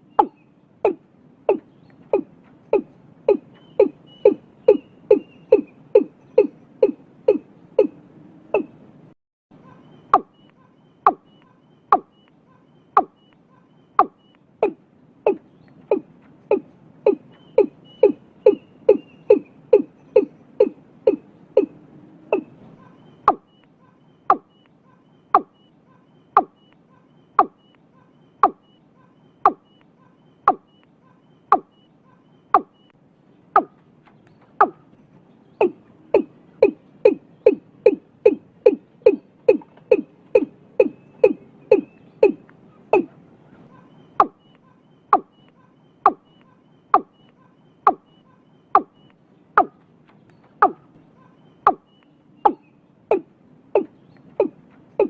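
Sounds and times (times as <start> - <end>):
bird calling short low notes: 0.0 - 8.8, 9.6 - 33.0, 35.5 - 55.0.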